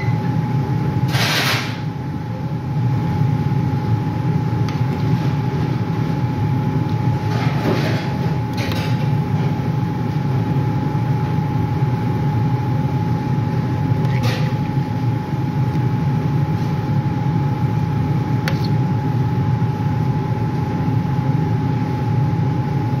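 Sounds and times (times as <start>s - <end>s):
thin steady whine: 0.0s - 1.2s, 1.9s - 23.0s
low mechanical hum: 0.0s - 23.0s.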